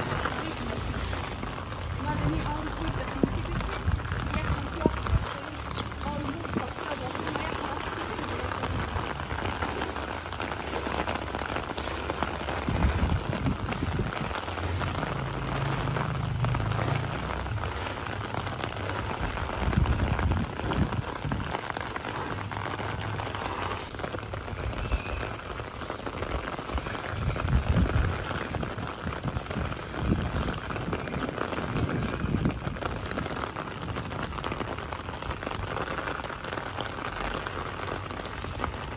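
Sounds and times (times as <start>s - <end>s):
low rumbles: 0.0s - 38.9s
rain on standing water: 0.0s - 38.9s.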